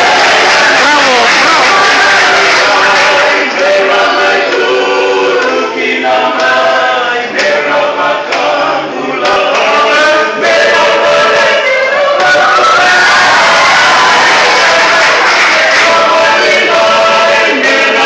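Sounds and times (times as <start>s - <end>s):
men singing in harmony: 0.0s - 18.0s.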